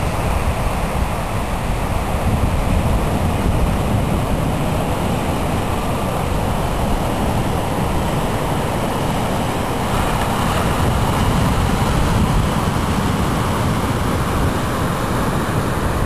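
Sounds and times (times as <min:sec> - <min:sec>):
ocean surf on beach: 0:00.0 - 0:16.0
wind rumbling on microphone: 0:00.0 - 0:16.0.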